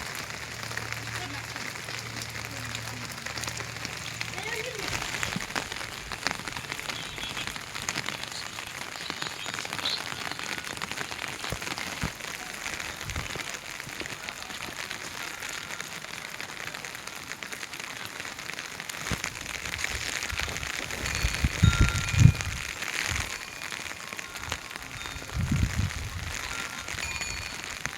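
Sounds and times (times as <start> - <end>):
heavy rain hissing: 0.0 - 27.9
raindrops ticking: 0.0 - 27.9.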